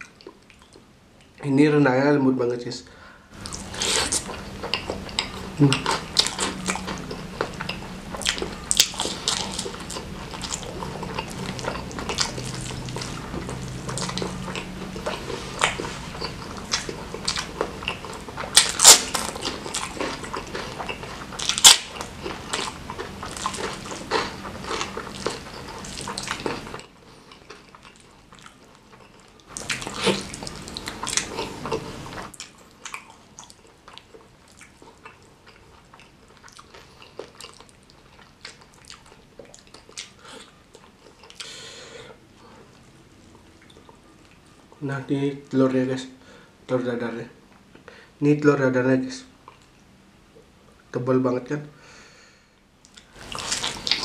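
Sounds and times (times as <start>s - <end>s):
man chewing with mouth smacks: 0.0s - 1.4s, 3.4s - 44.8s, 49.4s - 50.5s, 52.8s - 54.0s.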